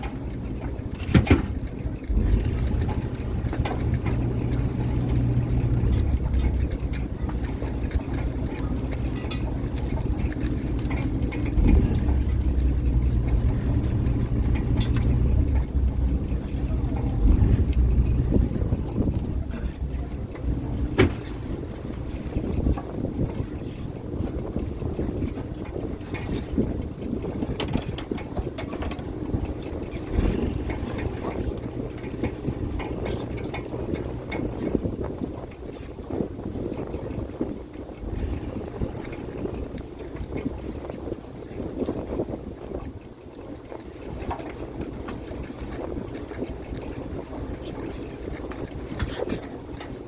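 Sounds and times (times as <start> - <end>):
boat engine humming: 0.0 - 50.0
gear rattling on deck: 0.0 - 50.0
light clicks and knocks: 0.0 - 50.0.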